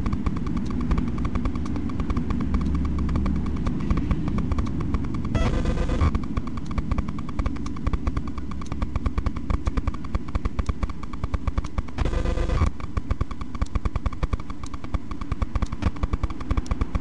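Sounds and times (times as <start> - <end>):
rapid regular ticking: 0.0 - 17.0.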